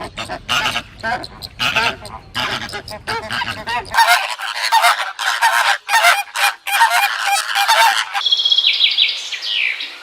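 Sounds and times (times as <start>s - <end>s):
harsh honking bird calls: 0.0s - 8.2s.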